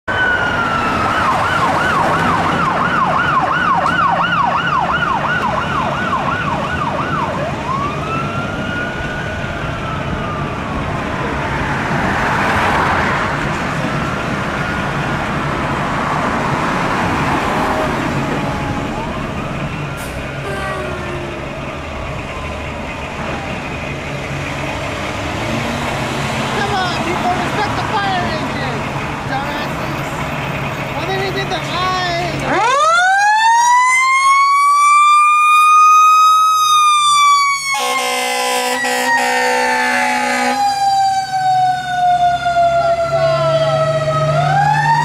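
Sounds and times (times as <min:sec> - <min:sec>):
emergency vehicle siren: 0:00.0 - 0:45.0
diesel engine rumble: 0:00.1 - 0:45.0.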